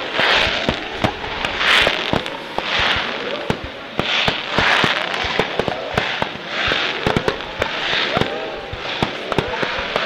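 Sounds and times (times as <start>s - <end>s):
fireworks bangs: 0.0s - 10.0s
fireworks crackling hiss: 0.0s - 10.0s.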